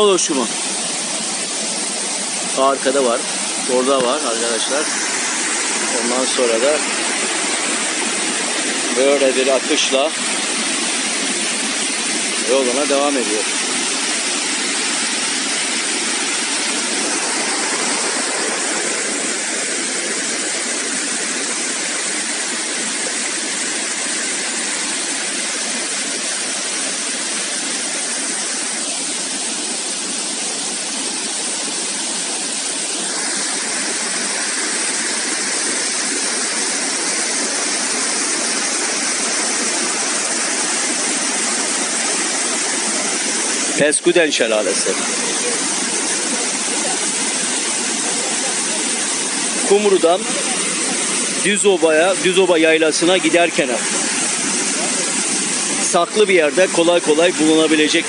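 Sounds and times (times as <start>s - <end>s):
waterfall rushing over rock ledges: 0.0s - 58.0s.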